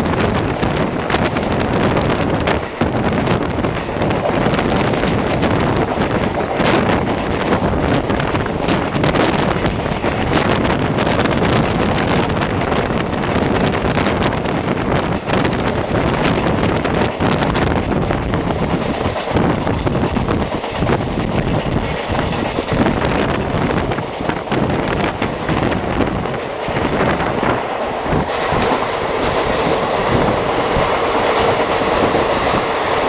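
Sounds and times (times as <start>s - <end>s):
train coaches rumbling: 0.0s - 33.0s
wind on microphone: 0.0s - 33.0s.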